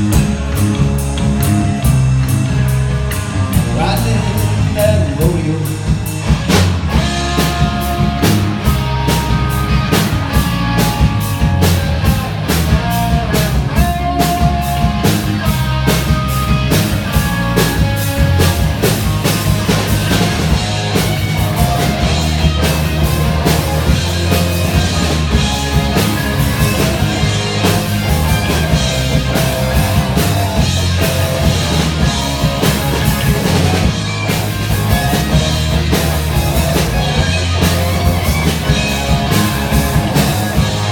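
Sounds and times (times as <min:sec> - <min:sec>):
instrumental rock music: 0:00.0 - 0:40.9.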